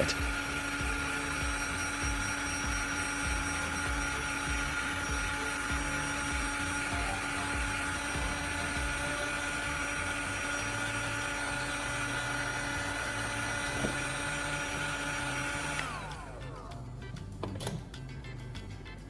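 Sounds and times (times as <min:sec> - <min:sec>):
heat gun fan blowing: 0:00.0 - 0:18.5.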